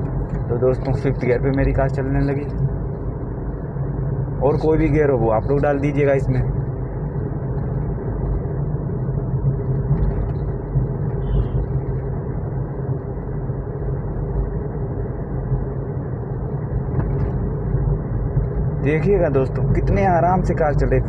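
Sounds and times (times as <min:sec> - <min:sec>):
car cabin engine and road drone: 0:00.0 - 0:21.0.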